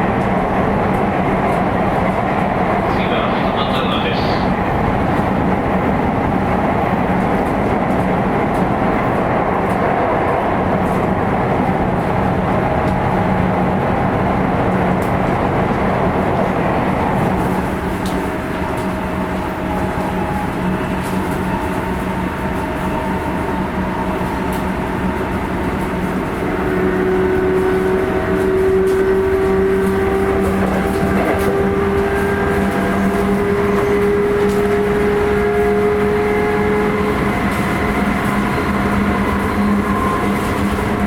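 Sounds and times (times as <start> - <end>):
electric train running rumble: 0.0 - 41.0.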